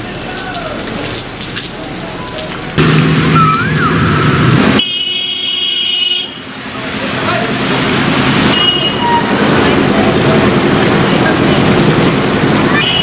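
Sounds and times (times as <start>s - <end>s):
rain and water hissing: 0.0s - 13.0s
vehicle engine running through water: 0.0s - 13.0s.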